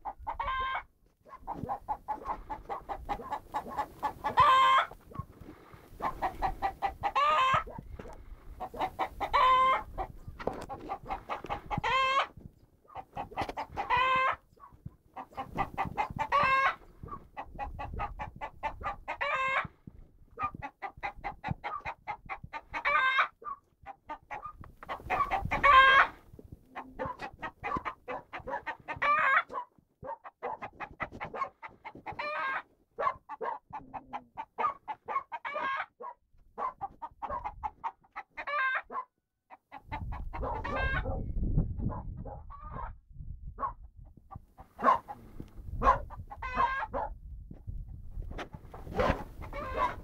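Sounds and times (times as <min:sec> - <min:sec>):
chickens clucking: 0:00.0 - 0:43.0, 0:43.6 - 0:47.1, 0:48.3 - 0:50.0.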